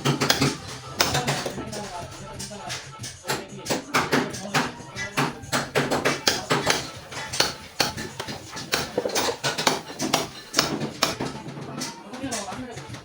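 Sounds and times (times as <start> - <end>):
sharp knocks and clinks on metal: 0.0 - 2.0, 3.0 - 13.0.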